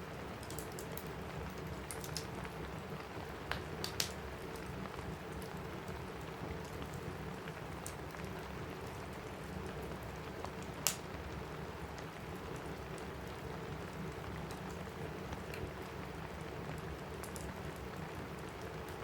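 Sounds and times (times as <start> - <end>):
fireplace crackling: 0.0 - 19.0
rain on a roof: 0.0 - 19.0.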